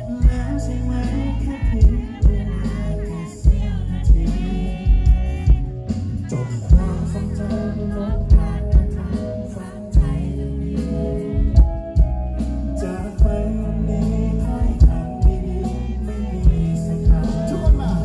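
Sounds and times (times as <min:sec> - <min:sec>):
electric bass: 0:00.0 - 0:18.0
man singing: 0:00.0 - 0:18.0.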